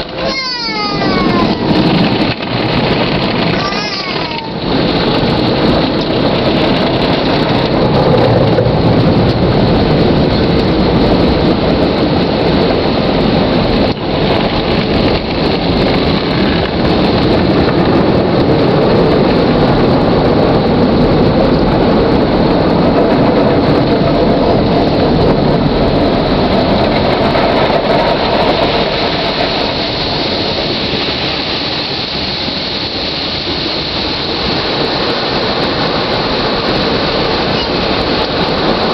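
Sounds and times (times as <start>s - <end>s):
car wash water spray: 0.0s - 38.9s
wash equipment beating on car: 0.0s - 38.9s.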